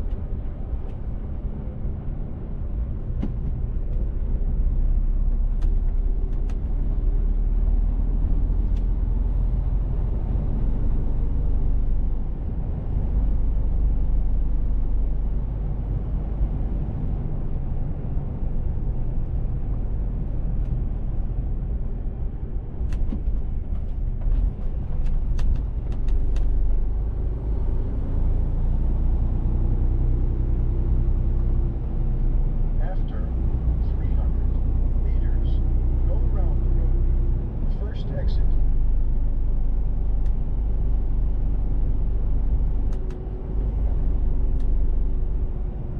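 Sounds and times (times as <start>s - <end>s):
road rumble: 0.0s - 45.9s.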